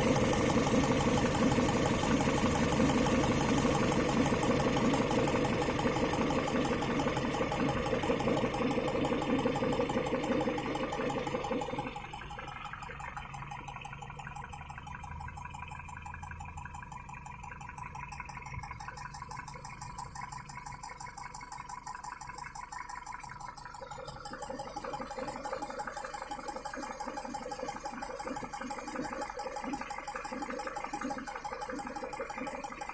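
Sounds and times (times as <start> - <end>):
engine running with knocking tick: 0.0 - 32.9.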